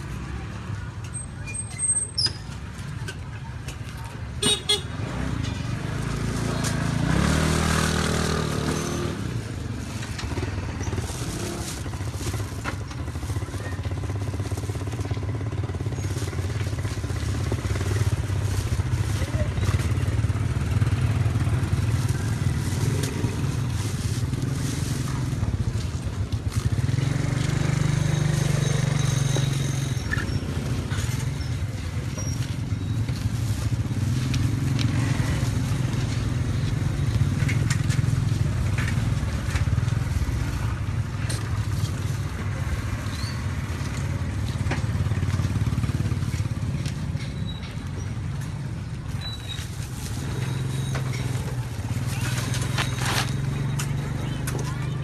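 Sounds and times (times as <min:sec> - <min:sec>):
motorbike engines passing: 0:00.0 - 0:55.0.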